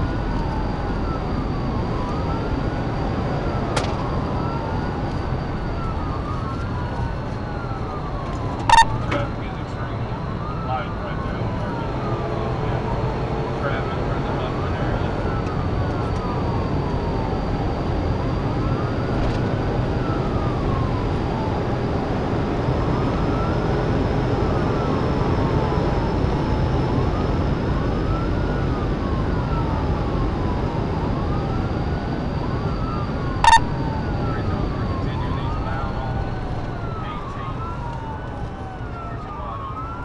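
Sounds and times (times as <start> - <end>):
police siren wailing: 0.0 - 40.0
road and wind noise: 0.0 - 40.0.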